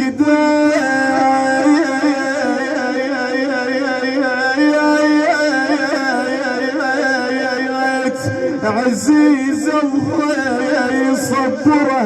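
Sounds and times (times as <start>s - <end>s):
man singing ornamented melody: 0.0s - 12.0s.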